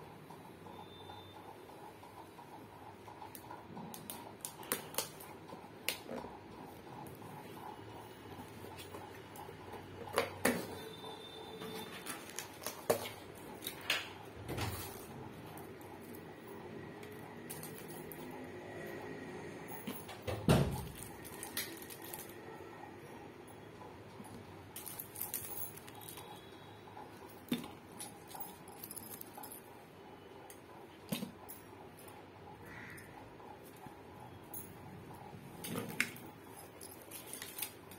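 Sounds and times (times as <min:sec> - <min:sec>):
stationery rustling and clicking: 0:01.4 - 0:37.9.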